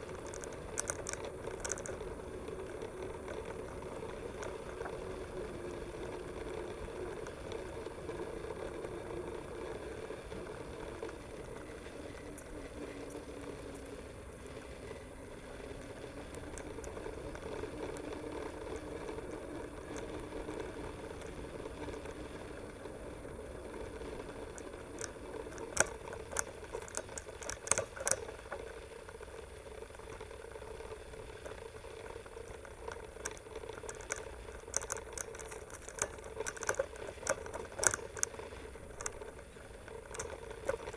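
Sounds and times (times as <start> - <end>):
bike clicks and rattles: 0.0 - 40.9
bike tyres rolling hum: 0.0 - 40.9.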